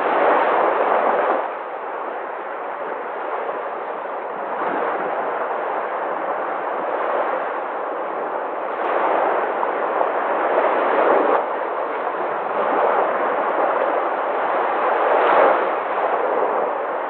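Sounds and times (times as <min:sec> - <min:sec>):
sea waves breaking: 0:00.0 - 0:17.0.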